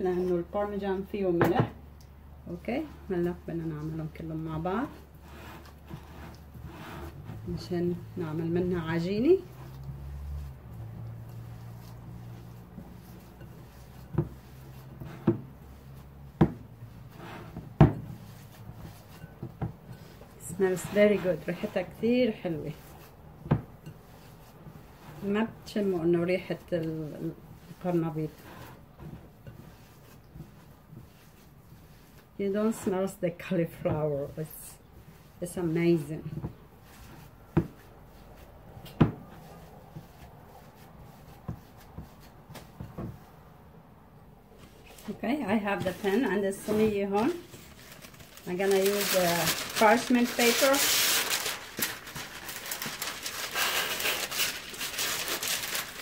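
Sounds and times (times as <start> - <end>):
hand squishing dough in bowl: 0.0 - 56.0.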